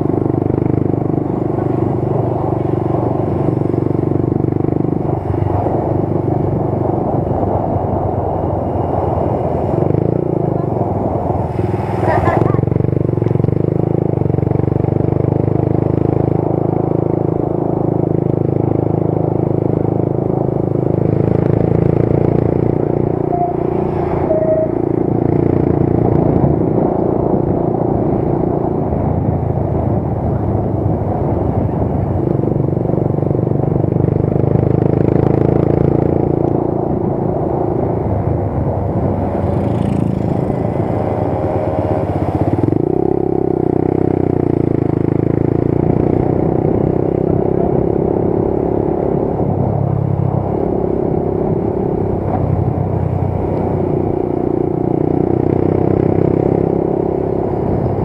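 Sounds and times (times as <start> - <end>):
motorcycle engine running: 0.0 - 58.0
road noise: 0.0 - 58.0.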